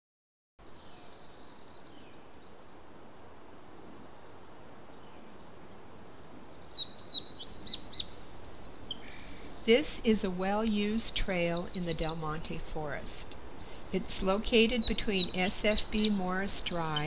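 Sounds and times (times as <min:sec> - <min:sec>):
outdoor ambience hiss: 0:00.6 - 0:17.0
songbirds trilling and twittering: 0:00.6 - 0:17.0.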